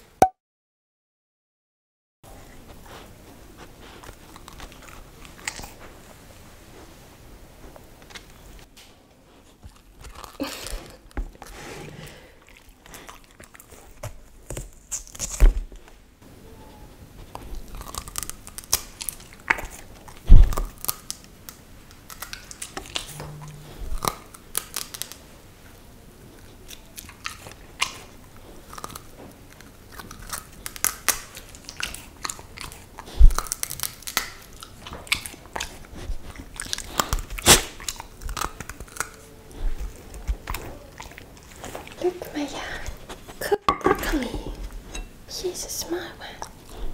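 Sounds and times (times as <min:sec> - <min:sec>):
dog crunching broccoli: 0:02.6 - 0:06.9, 0:09.3 - 0:15.9, 0:17.2 - 0:44.9.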